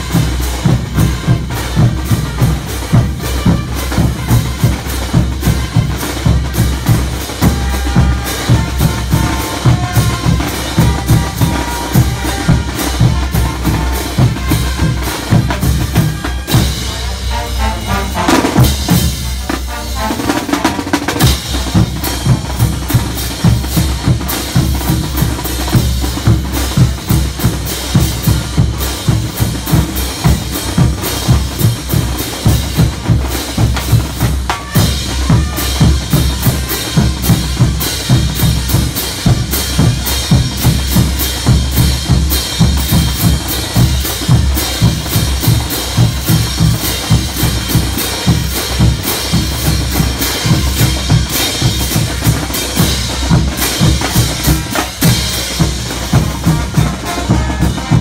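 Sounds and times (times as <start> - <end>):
bass drums: 0.0 - 58.0
snare drums: 0.0 - 58.0.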